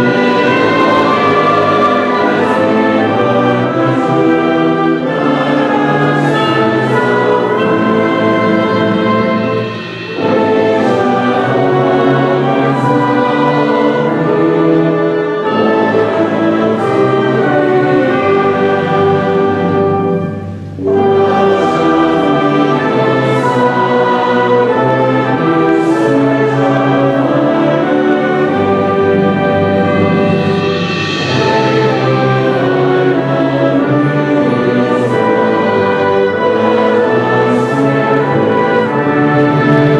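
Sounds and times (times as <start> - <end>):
choir and orchestra performing: 0.0 - 39.9.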